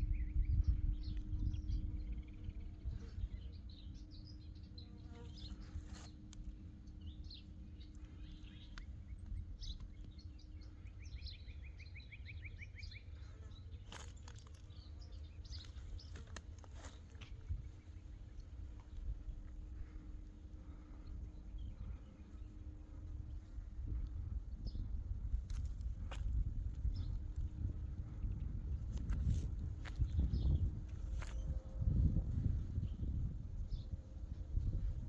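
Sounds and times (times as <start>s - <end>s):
wind rumble on microphone: 0.0s - 13.3s, 13.9s - 35.0s
steady low buzz: 0.0s - 35.0s.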